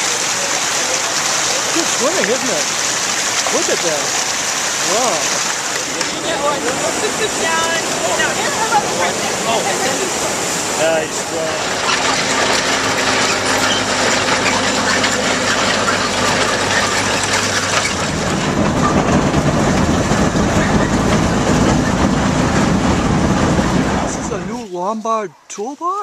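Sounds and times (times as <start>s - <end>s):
log hauler rhythmic clatter: 0.0s - 9.6s, 10.6s - 26.0s.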